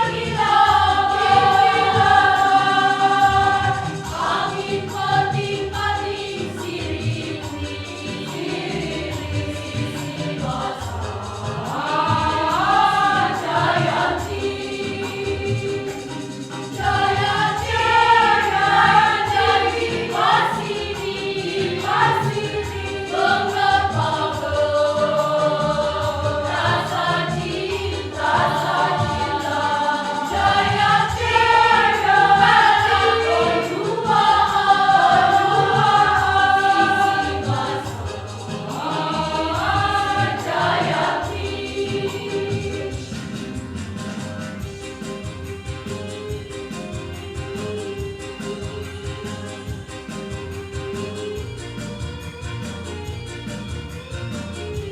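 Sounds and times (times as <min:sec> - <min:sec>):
choir singing in parts: 0:00.0 - 0:51.6.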